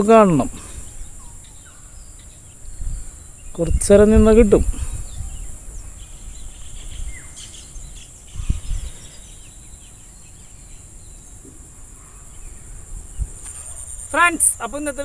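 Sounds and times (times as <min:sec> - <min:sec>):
insects chirring: 0:00.0 - 0:15.0
faint bird chirps: 0:00.6 - 0:04.0, 0:04.7 - 0:14.7.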